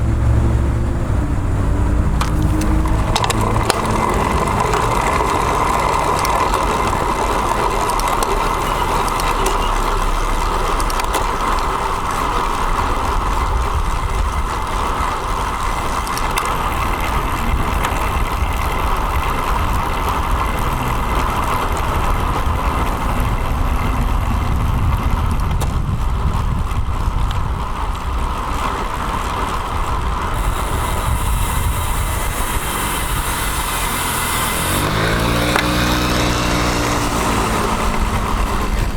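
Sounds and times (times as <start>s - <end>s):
bicycle road noise: 0.0s - 38.9s
low rumble of road traffic: 0.0s - 38.9s.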